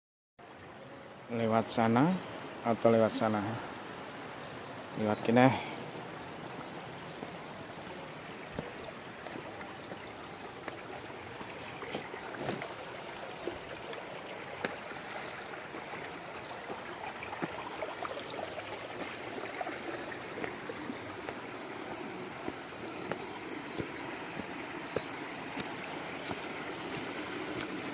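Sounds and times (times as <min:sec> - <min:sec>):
flowing water rushing: 0:00.4 - 0:27.9.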